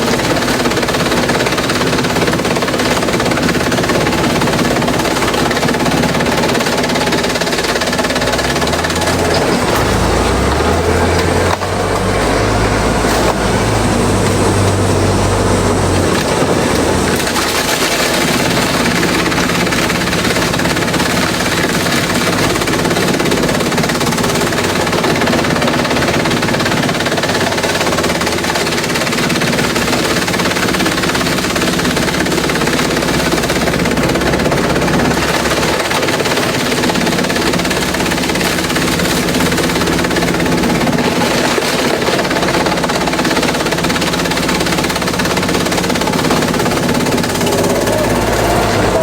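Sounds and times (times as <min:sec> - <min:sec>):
shredder rattling: 0:00.0 - 0:49.0.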